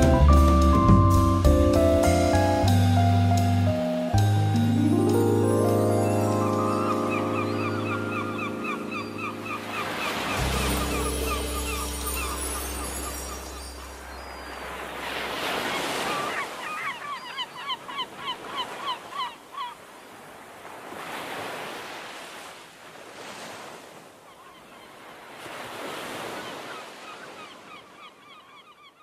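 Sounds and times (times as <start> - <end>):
sea waves washing in: 0.0 - 24.3, 24.9 - 27.8.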